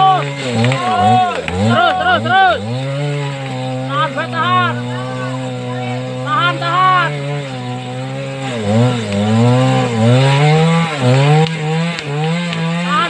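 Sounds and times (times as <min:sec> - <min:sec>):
chainsaw cutting tree trunk: 0:00.0 - 0:13.0.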